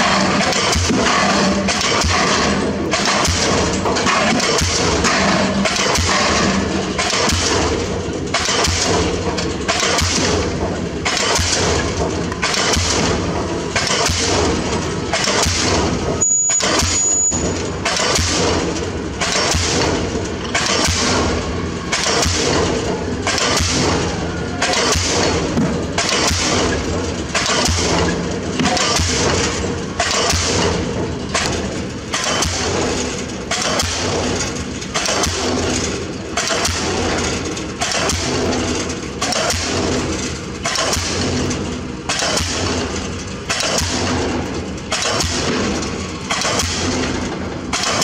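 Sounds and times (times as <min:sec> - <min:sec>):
pile hammer heavy blows: 0:00.0 - 0:48.0.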